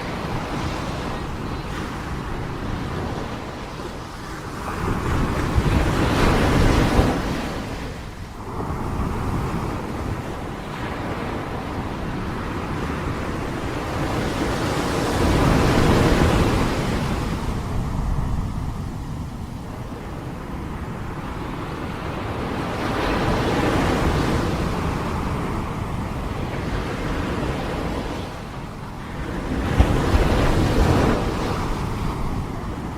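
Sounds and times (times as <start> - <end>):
sea waves washing in: 0.0 - 32.9
wind rumbling on microphone: 0.0 - 32.9.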